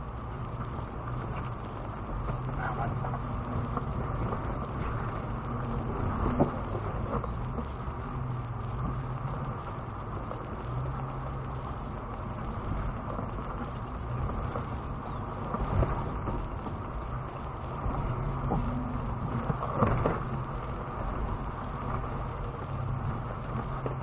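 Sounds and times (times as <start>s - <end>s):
engine running at low speed: 0.0s - 24.0s
tyres and suspension rumbling: 0.0s - 24.0s.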